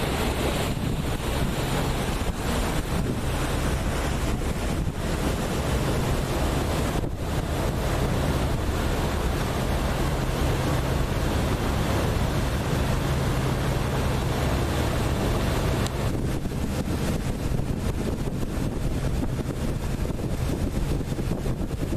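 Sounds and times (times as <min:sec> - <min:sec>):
boat engine hum: 0:00.0 - 0:21.9
wind buffeting microphone: 0:00.0 - 0:21.9.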